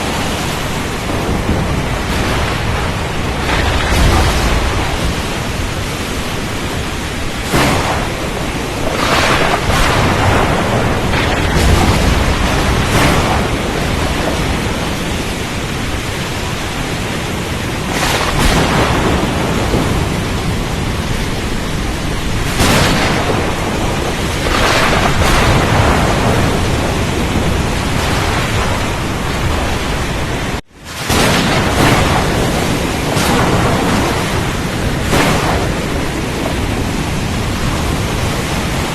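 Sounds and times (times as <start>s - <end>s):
rain: 0.0s - 38.9s
thunder rolling: 0.0s - 38.9s
wind: 0.0s - 38.9s.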